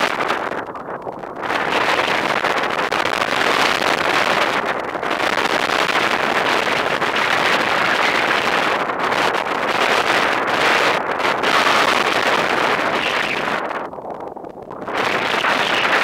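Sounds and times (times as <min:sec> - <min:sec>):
wind rushing on microphone: 0:00.0 - 0:16.0.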